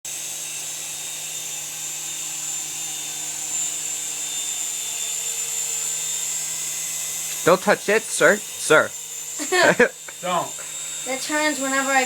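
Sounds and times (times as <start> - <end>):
rc helicopter motor whine: 0.1 - 12.0.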